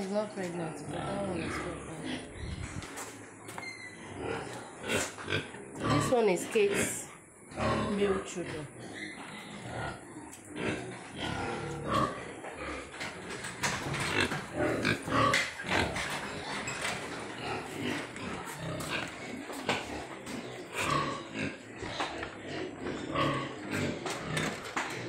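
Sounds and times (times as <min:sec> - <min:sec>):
pigs grunting: 0:00.6 - 0:03.2, 0:03.9 - 0:25.0.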